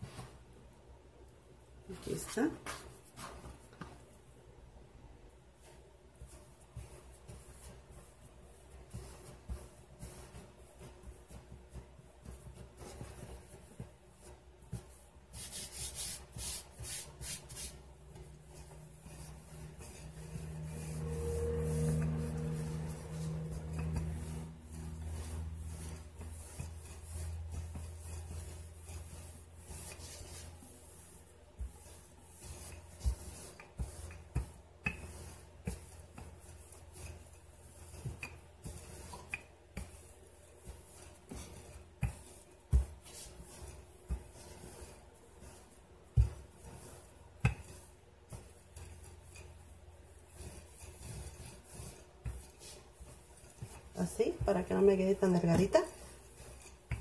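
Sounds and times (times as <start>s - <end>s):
rolling pin rubbing over dough: 0.0s - 57.0s.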